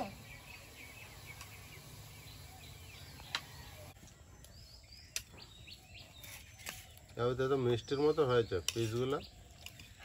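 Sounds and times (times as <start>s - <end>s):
faint birdsong chirps: 0.0s - 10.0s.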